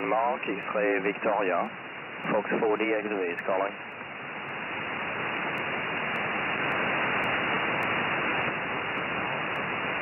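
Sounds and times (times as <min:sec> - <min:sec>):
muffled radio static hiss: 0:00.0 - 0:10.0.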